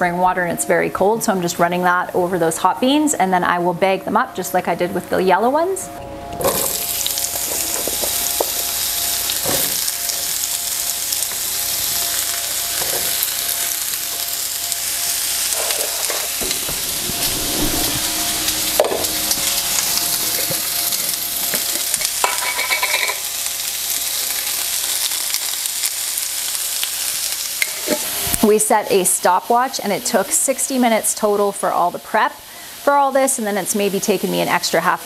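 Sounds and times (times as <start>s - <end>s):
zucchini sizzling in a skillet: 6.4s - 35.0s.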